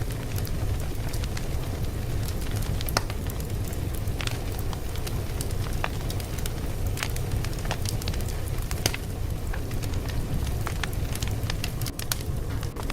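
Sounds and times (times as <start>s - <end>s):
fire pops and snaps: 0.0s - 12.9s
wood fire crackling: 0.0s - 12.9s.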